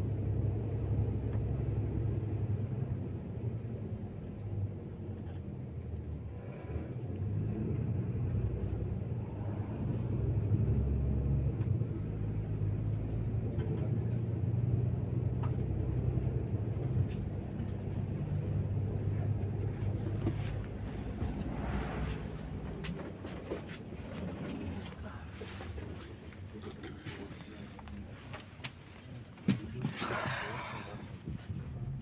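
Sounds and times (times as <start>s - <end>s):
bus engine and road drone: 0.0s - 32.0s.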